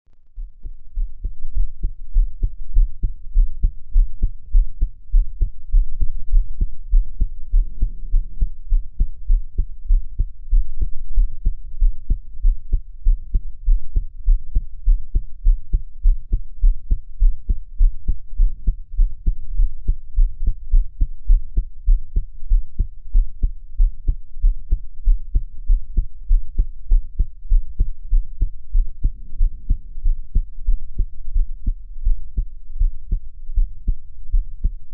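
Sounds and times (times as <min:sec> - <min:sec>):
heartbeat thuds: 0:00.4 - 0:34.9.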